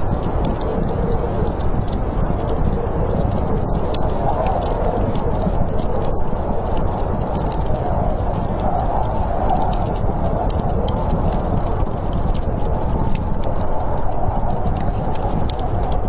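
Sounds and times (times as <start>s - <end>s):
campfire crackling and popping: 0.0s - 16.0s
snowstorm wind rushing: 0.0s - 16.0s.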